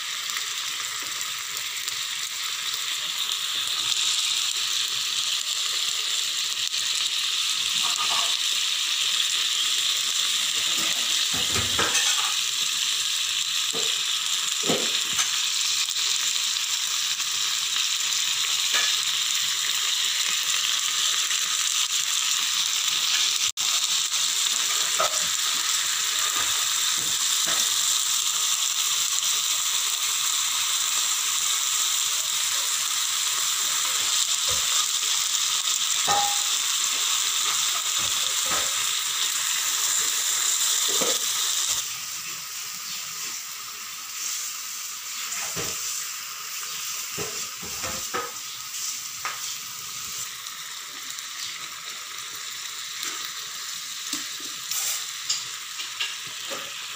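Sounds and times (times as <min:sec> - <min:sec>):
meat sizzling in a pan: 0:00.0 - 0:56.9.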